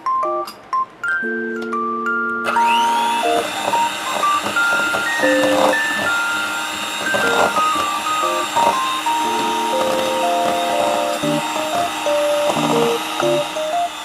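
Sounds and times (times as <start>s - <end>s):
electric mixer motor whine: 2.4s - 14.0s.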